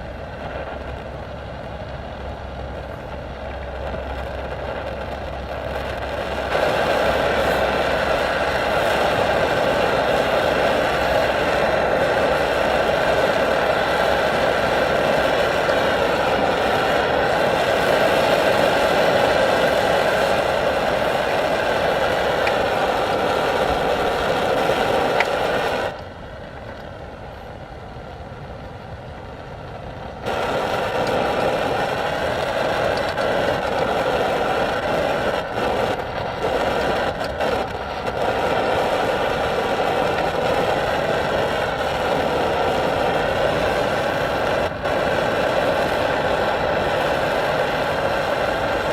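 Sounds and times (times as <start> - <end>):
camping stove roaring: 0.0 - 48.9.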